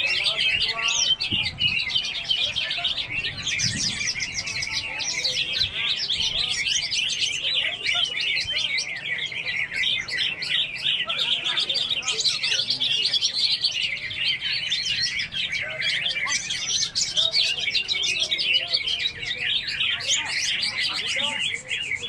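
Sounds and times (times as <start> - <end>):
chorus of songbirds singing: 0.0 - 22.0.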